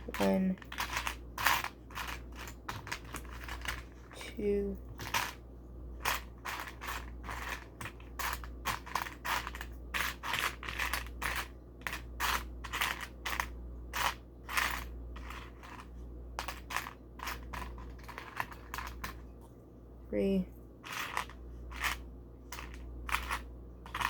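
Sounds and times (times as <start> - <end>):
plastic bricks clicking and scraping: 0.0 - 4.0, 6.0 - 19.2, 20.9 - 24.0.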